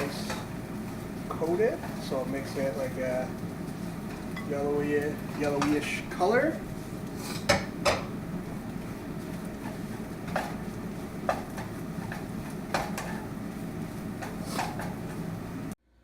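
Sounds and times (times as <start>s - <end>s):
steady hiss and low hum: 0.0s - 16.0s.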